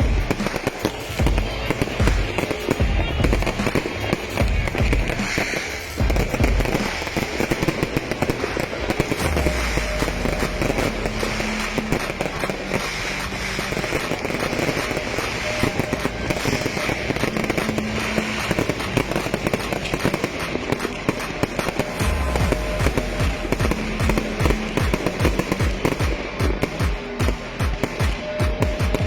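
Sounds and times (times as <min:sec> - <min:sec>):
fireworks bangs and crackling: 0:00.0 - 0:29.0
music playing: 0:00.0 - 0:29.0.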